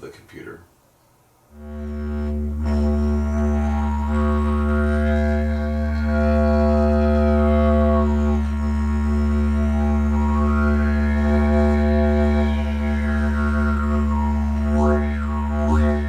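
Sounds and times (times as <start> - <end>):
didgeridoo drone: 1.5 - 16.0.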